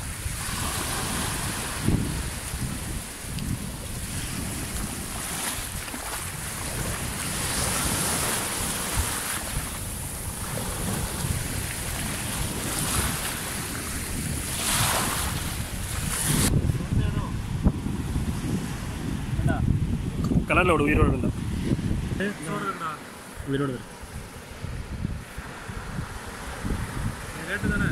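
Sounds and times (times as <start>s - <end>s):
small waves washing over sand: 0.0s - 27.9s
wind buffeting microphone: 0.0s - 27.9s.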